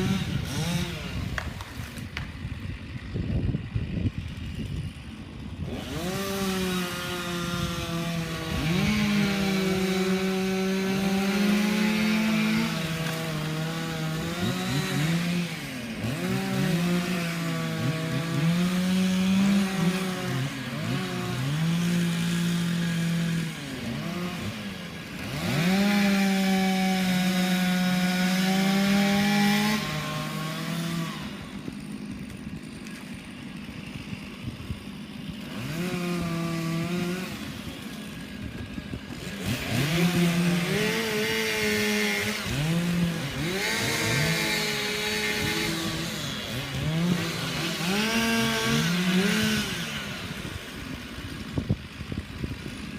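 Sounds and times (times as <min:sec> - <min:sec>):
chainsaw revving: 0:00.0 - 0:52.9.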